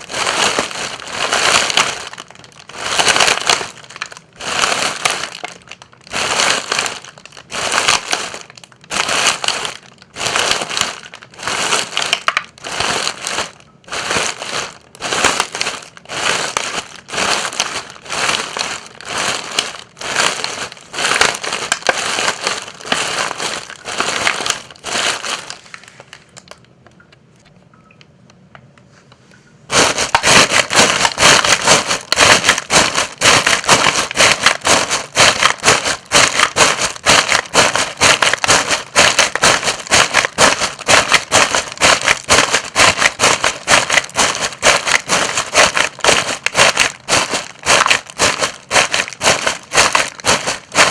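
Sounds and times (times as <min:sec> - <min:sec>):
footsteps crunching dry leaves: 0:00.0 - 0:25.8, 0:29.7 - 0:50.9.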